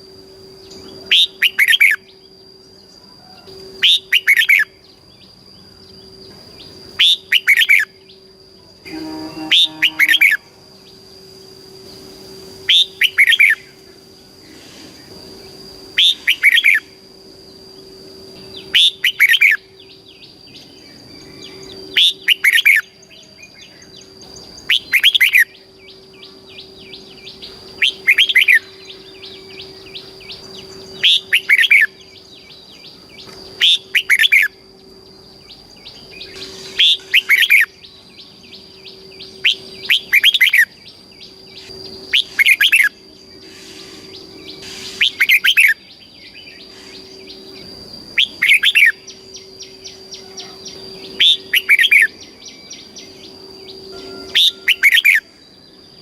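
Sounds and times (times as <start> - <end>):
bulbul singing whistled phrases: 0.6 - 2.4, 3.2 - 8.3, 8.9 - 11.1, 12.4 - 13.8, 15.4 - 17.0, 18.4 - 34.6, 35.4 - 56.0.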